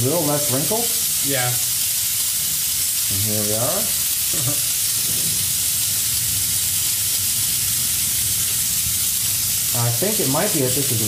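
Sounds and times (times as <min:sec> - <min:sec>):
steam wand hissing: 0:00.0 - 0:11.0.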